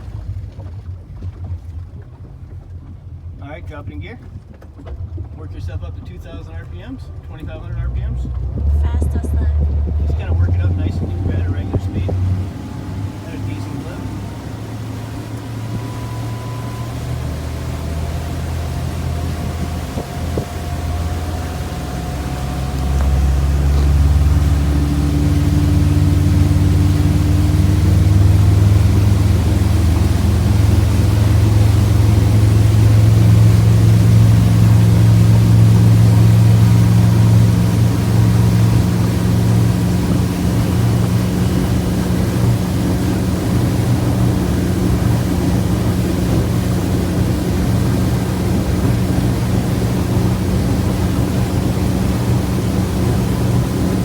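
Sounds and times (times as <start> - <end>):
motorboat engine droning: 0.0 - 54.0
water noise: 0.0 - 54.0
wind: 0.0 - 54.0.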